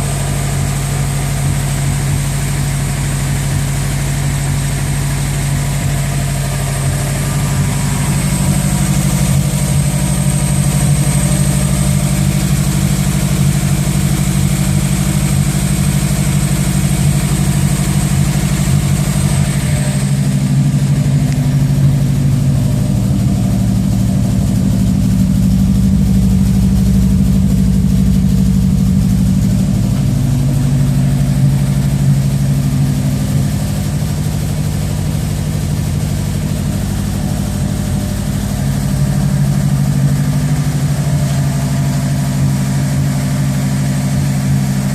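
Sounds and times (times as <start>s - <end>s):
motor idling with low hum: 0.0s - 44.9s.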